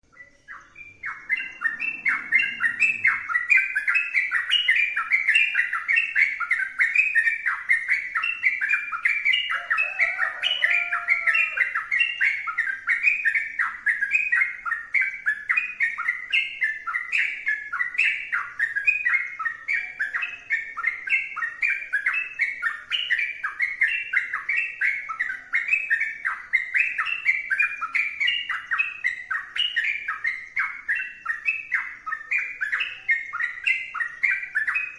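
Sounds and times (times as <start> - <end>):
bulbul singing: 0.0 - 34.9.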